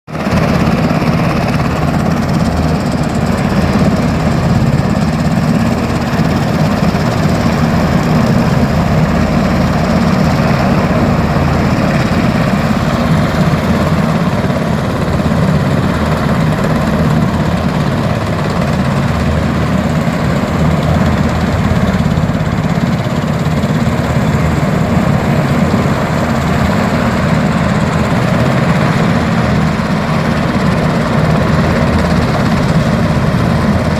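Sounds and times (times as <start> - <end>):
helicopter rotor chopping: 0.1 - 33.9.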